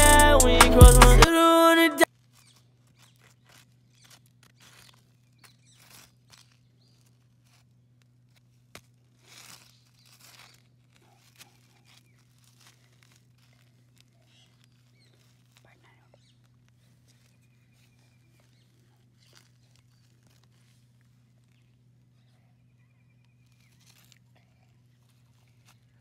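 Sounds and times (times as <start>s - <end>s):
faint rustling and crackling: 2.1s - 26.0s.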